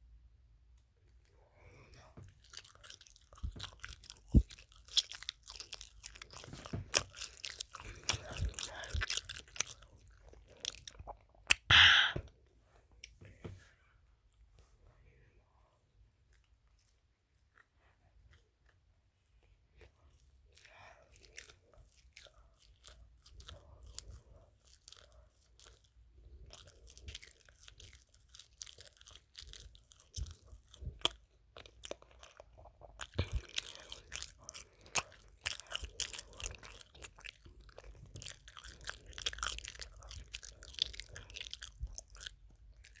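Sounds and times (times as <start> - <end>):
person chewing food: 1.0 - 12.2, 16.2 - 43.0.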